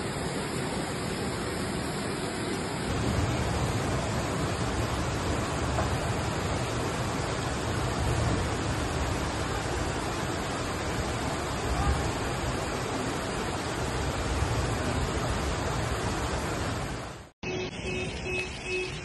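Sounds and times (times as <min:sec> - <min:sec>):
floodwater rushing: 0:00.0 - 0:17.3.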